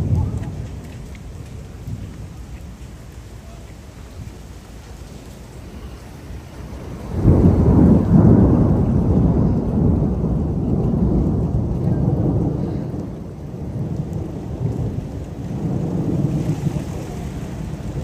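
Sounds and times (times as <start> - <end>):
deep thunder rumble: 0.0 - 18.0
heavy rain hissing: 0.0 - 18.0.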